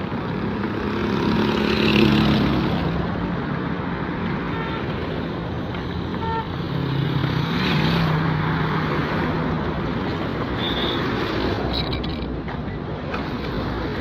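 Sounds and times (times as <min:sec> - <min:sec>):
steady traffic noise: 0:00.0 - 0:14.0.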